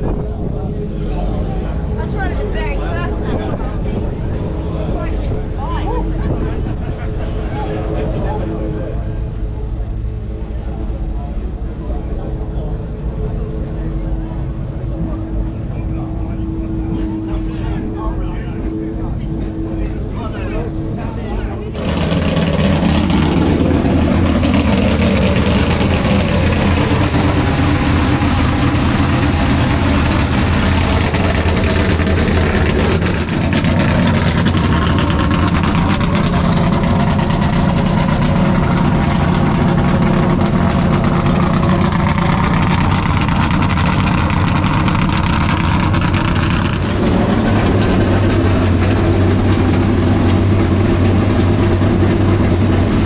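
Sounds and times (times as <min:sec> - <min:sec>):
loud car engine idling: 0:00.0 - 0:53.0.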